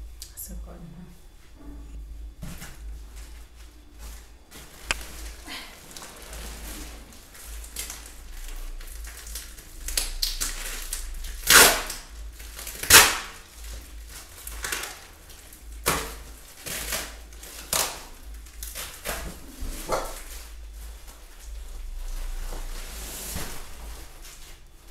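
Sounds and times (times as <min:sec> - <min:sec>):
plastic wrapping crinkling and tearing: 0:04.0 - 0:24.9.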